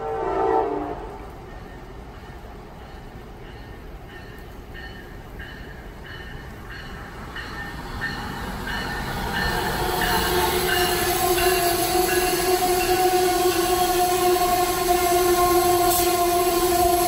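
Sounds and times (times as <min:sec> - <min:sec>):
train hum: 0:00.0 - 0:17.0
train passing at speed: 0:00.0 - 0:17.0
wheels ringing on rails: 0:00.0 - 0:17.0.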